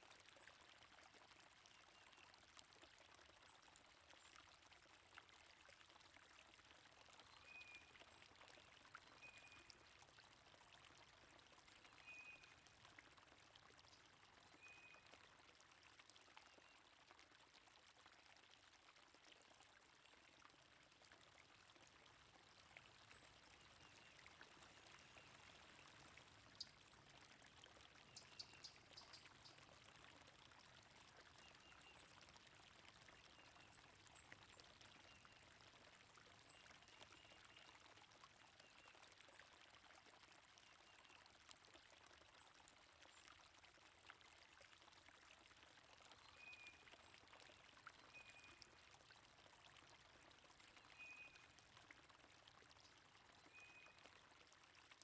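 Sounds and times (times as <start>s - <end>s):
stream water flowing: 0.1s - 54.9s.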